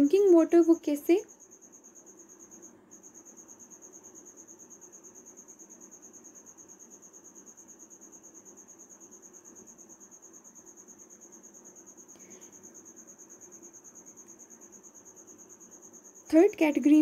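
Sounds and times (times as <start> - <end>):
low background hum: 0.0 - 17.0
pulsing insect chirping: 0.0 - 17.0.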